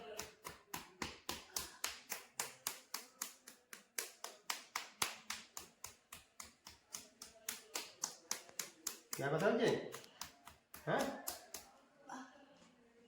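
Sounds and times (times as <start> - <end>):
hands tapping on a body: 0.0 - 11.7.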